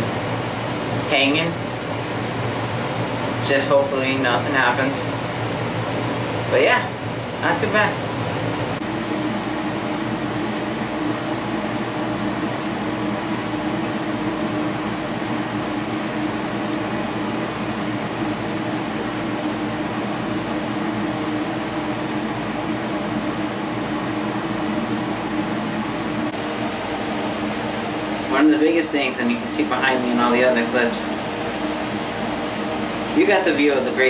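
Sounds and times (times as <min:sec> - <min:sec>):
air-conditioning fan humming: 0:00.0 - 0:34.0.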